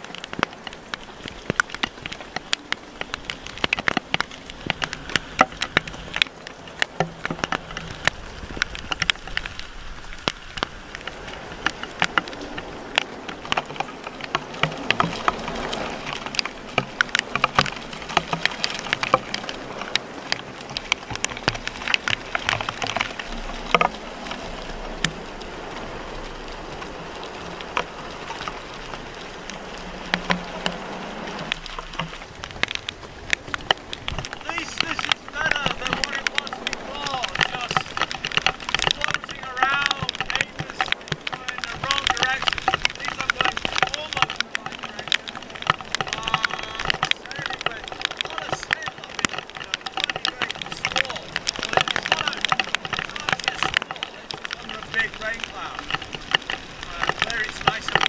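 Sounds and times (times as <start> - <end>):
raindrops hitting boat cockpit: 0.0 - 58.0
wind and rain hiss: 0.0 - 58.0.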